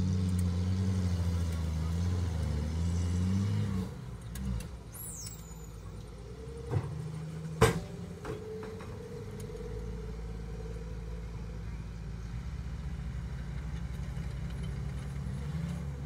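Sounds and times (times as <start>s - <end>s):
diesel truck engines running: 0.0s - 16.0s.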